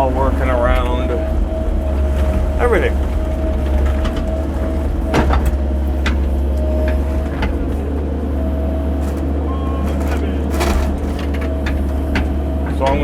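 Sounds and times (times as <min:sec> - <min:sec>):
diesel engine under load: 0:00.0 - 0:13.0
hydraulic whine: 0:00.0 - 0:13.0.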